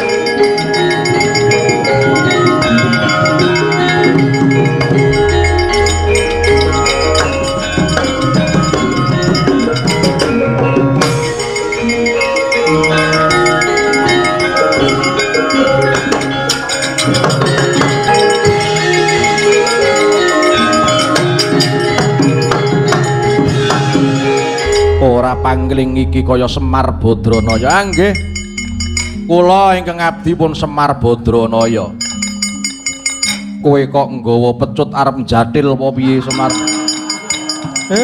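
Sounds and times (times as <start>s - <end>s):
drum strokes: 0.0s - 31.0s
bronze metallophones ringing: 0.0s - 38.0s.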